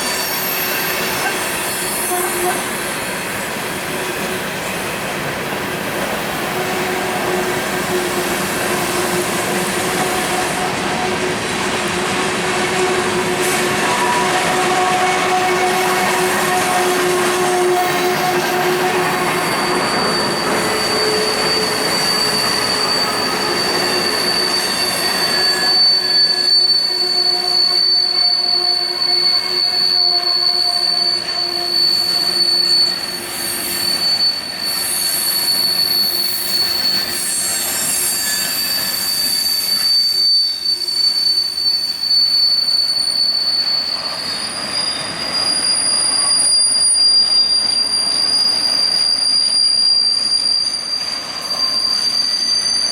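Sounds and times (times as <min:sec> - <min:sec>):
high-pitched wheel squeal: 0:00.0 - 0:03.9, 0:06.1 - 0:52.9
freight train cars rolling: 0:00.0 - 0:52.9
lower wheel squeals: 0:00.0 - 0:52.9.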